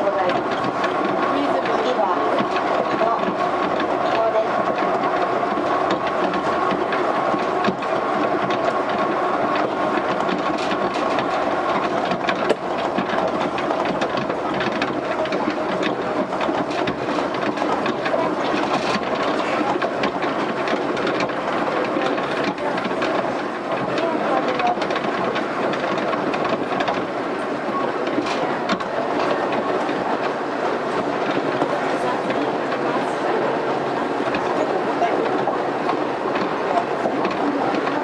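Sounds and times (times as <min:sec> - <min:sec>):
train rumble and hum: 0:00.0 - 0:38.0
knocks from guideway: 0:00.1 - 0:38.0.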